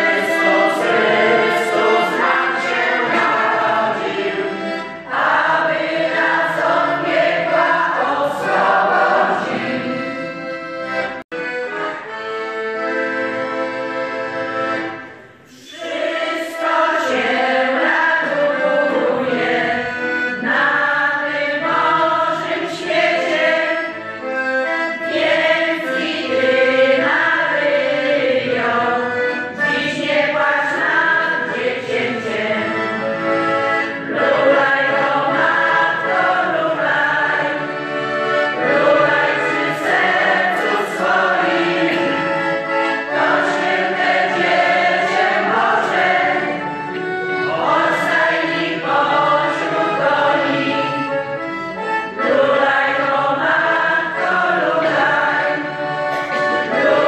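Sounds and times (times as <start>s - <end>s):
group singing a carol: 0.0s - 11.9s, 12.8s - 57.0s
accordion: 0.0s - 57.0s.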